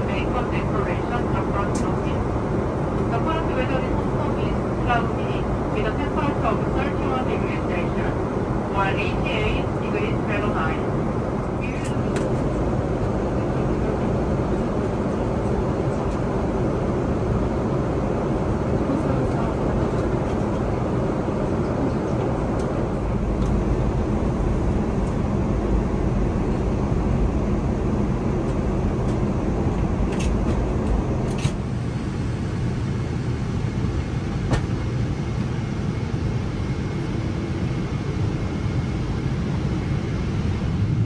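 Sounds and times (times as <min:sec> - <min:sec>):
airliner cabin engine rush: 0:00.0 - 0:41.0.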